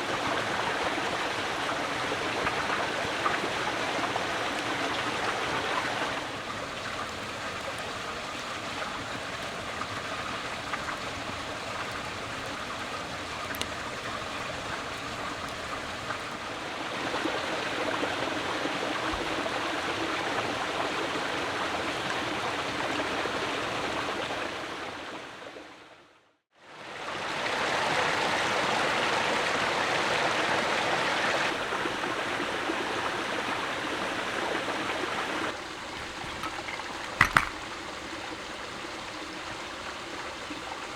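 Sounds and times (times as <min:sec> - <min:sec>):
running water rushing: 0:00.0 - 0:25.0, 0:31.4 - 0:40.9.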